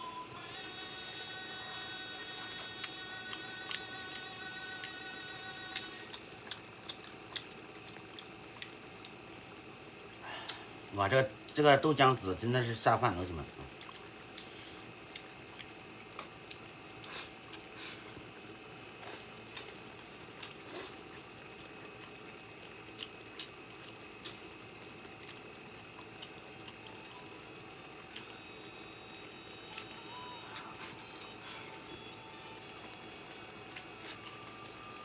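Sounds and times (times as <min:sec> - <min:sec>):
faint room hiss: 0:00.0 - 0:35.0.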